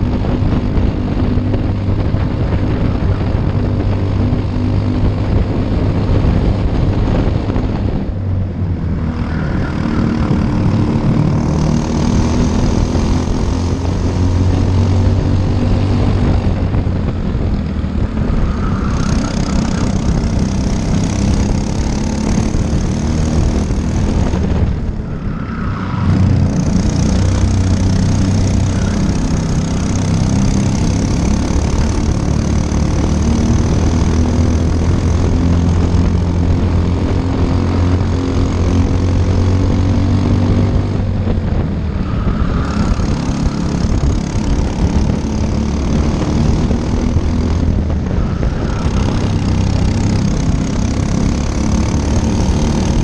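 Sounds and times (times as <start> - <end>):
kart engine running hard: 0.0 - 53.0.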